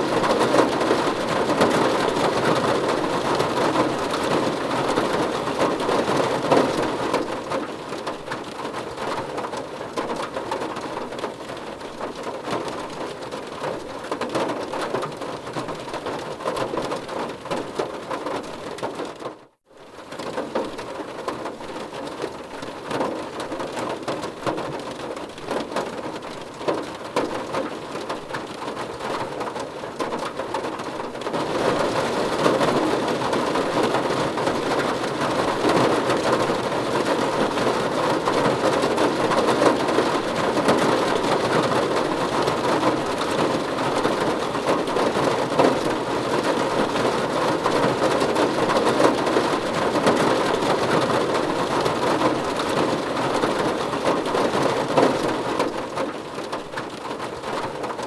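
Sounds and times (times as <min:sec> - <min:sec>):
heavy rain on a surface: 0:00.0 - 0:58.0.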